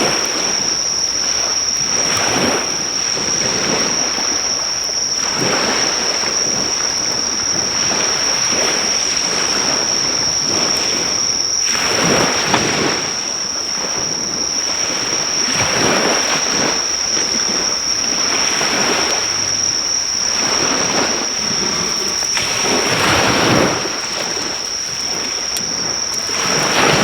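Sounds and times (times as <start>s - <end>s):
high-pitched insect drone: 0.0s - 27.0s
sea waves breaking on shore: 0.0s - 27.0s.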